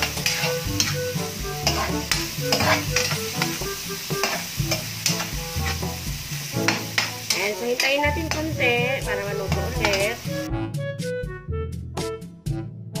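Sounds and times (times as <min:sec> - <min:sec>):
meat sizzling in oil: 0:00.0 - 0:10.5
metal spatula scraping wok: 0:00.0 - 0:10.5
background music: 0:00.0 - 0:13.0.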